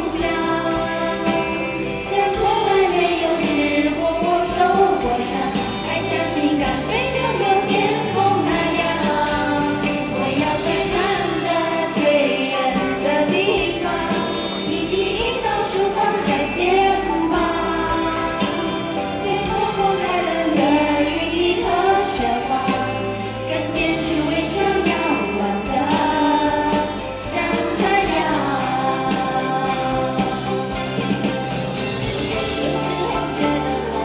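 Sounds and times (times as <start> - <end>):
instrumental accompaniment: 0.0 - 34.0
women singing pop song: 0.0 - 34.0.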